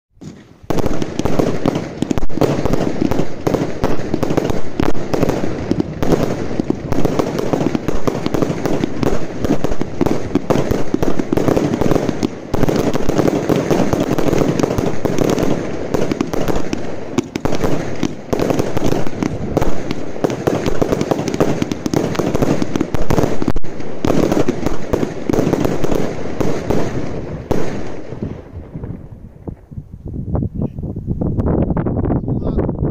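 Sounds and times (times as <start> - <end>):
firework launch shots: 0.2 - 29.6
firework aerial bursts: 0.2 - 29.8.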